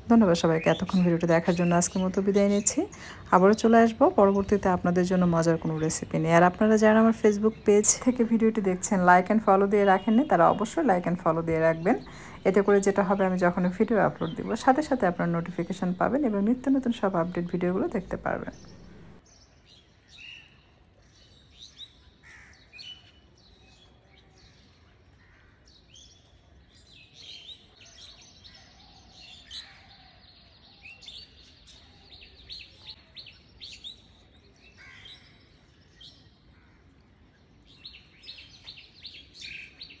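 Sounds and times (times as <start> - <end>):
small birds chirping: 0.0 - 24.8, 25.7 - 40.0.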